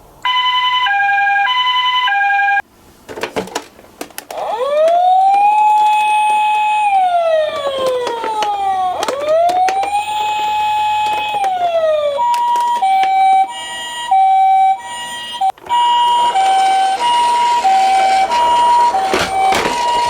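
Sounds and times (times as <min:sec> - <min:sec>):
electronic toy siren: 0:00.2 - 0:02.6, 0:04.3 - 0:20.0.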